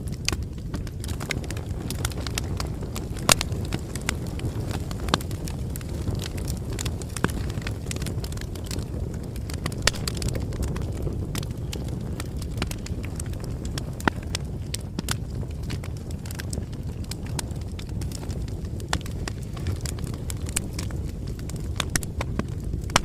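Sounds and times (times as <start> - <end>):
bonfire wood crackling: 0.0 - 23.0
low fire rush: 0.0 - 23.0.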